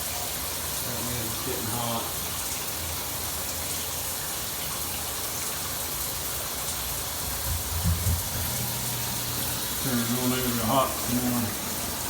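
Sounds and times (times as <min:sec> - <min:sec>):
shower water falling: 0:00.0 - 0:12.0.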